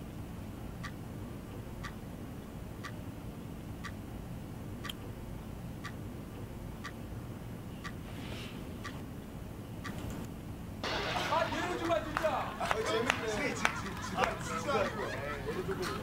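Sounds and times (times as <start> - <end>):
clock ticking: 0.0 - 8.0, 8.8 - 9.1, 9.7 - 16.0
low room hum: 0.0 - 16.0.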